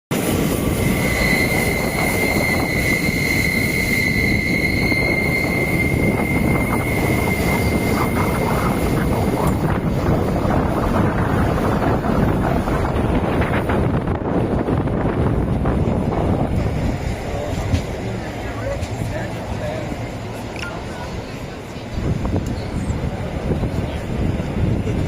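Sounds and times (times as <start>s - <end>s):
train wheels rumbling: 0.1s - 25.0s.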